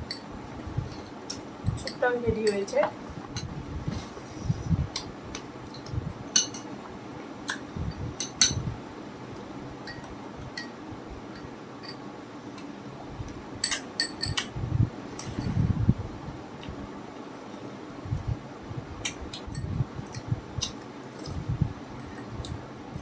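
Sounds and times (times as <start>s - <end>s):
low fan hum: 0.0s - 23.0s.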